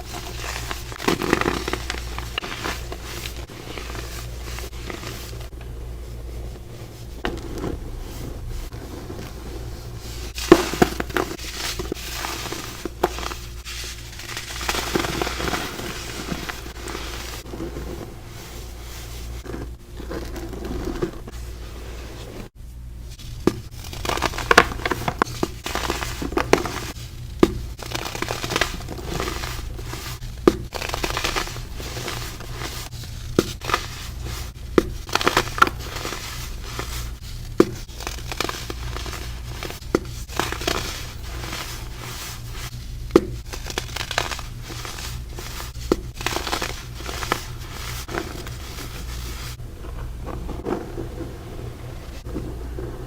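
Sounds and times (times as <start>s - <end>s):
baking soda crunching: 0.0s - 22.4s, 23.1s - 53.0s
steady low hum: 0.0s - 53.0s.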